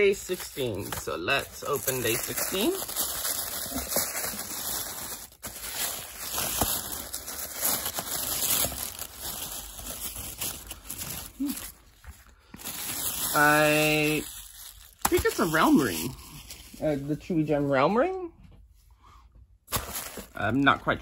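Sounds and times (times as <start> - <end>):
packaging crinkling and rustling: 0.0 - 17.1, 19.7 - 20.6.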